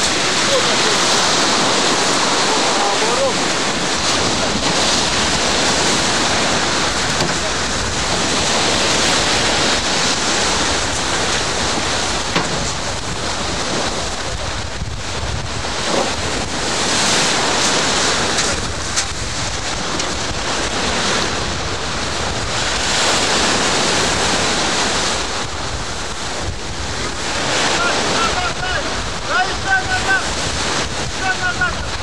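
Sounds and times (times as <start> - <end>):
sea surf breaking: 0.0 - 32.0
wind buffeting microphone: 0.0 - 32.0.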